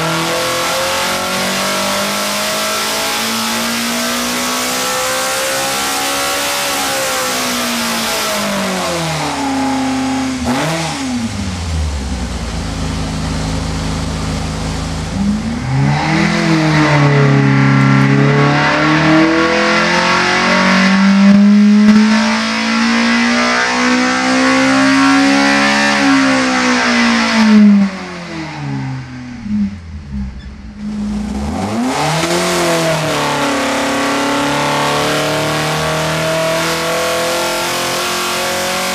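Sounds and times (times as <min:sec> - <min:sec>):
car engine revving hard: 0:00.0 - 0:38.9.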